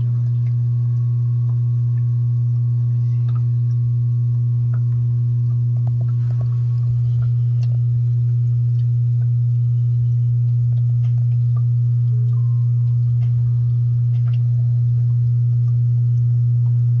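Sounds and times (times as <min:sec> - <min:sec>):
low electric hum: 0:00.0 - 0:17.0.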